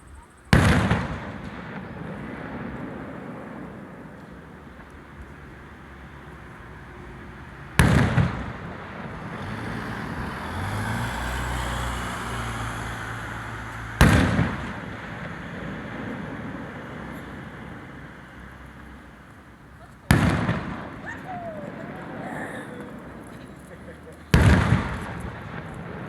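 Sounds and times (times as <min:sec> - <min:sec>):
firework bangs with echo: 0:00.5 - 0:10.2, 0:13.6 - 0:26.0.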